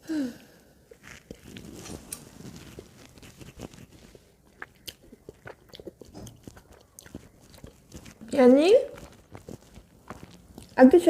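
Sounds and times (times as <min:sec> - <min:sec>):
wet chewing mouth clicks: 0:00.8 - 0:11.0.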